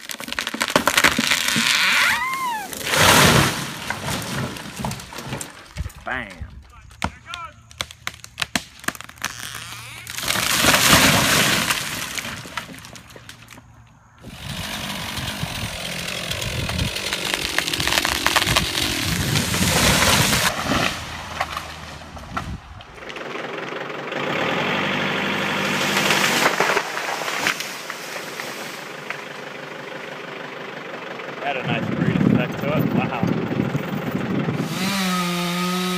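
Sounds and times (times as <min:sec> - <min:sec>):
trees cracking and crashing: 0:00.0 - 0:29.8.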